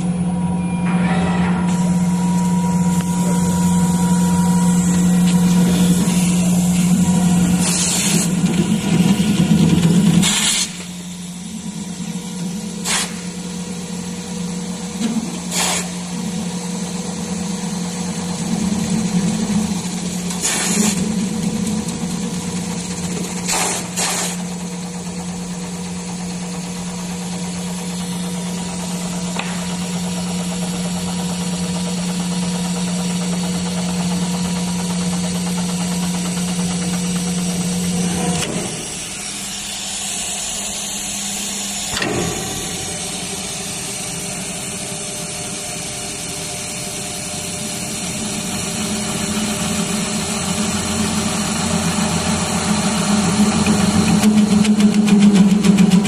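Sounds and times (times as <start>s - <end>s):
machine motor running: 0.0s - 56.0s.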